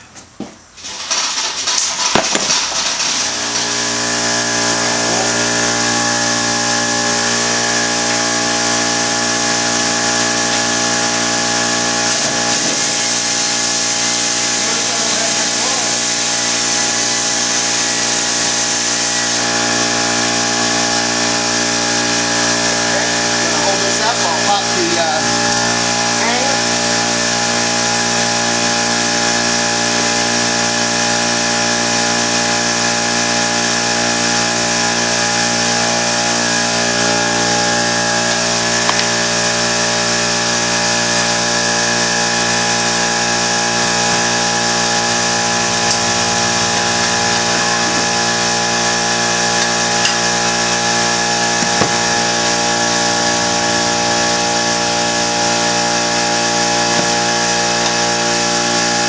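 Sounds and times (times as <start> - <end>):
motor droning: 3.0 - 59.0.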